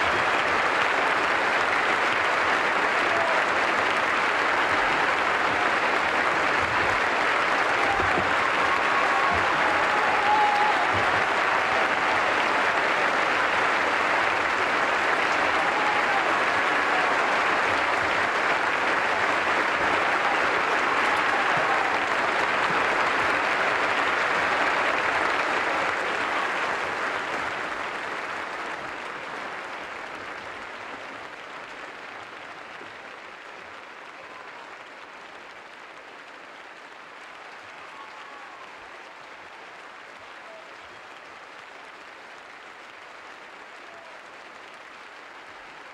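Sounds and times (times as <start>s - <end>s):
audience applauding: 0.0s - 45.9s.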